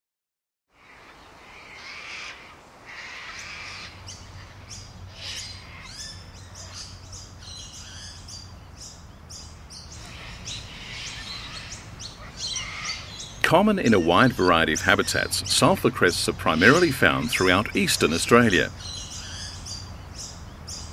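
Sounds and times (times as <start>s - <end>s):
birds chirping: 0.8s - 20.9s
low steady rumble: 4.0s - 20.9s.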